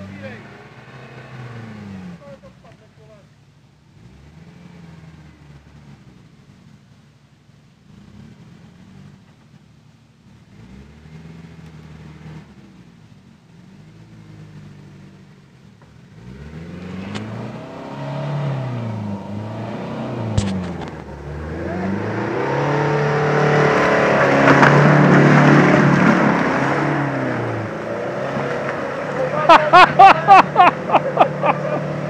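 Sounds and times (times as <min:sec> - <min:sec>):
suv engine revving in mud: 0:00.0 - 0:03.2, 0:03.8 - 0:06.8, 0:07.8 - 0:32.0.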